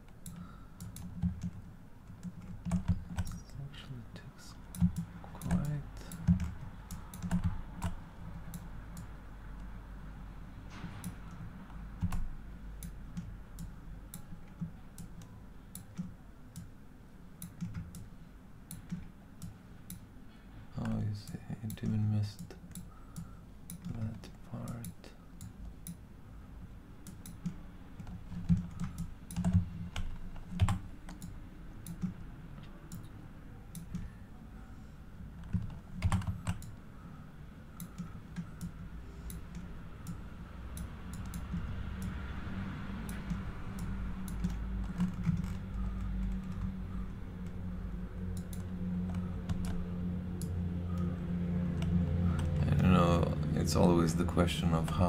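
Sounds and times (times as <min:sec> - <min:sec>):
keyboard and mouse clicks: 0:00.0 - 0:03.5, 0:04.6 - 0:09.7, 0:10.8 - 0:16.7, 0:17.4 - 0:18.1, 0:18.7 - 0:20.1, 0:20.8 - 0:26.0, 0:27.0 - 0:34.1, 0:35.3 - 0:36.9, 0:37.7 - 0:42.3, 0:43.0 - 0:47.6, 0:48.2 - 0:52.6
low hum: 0:00.0 - 0:55.0.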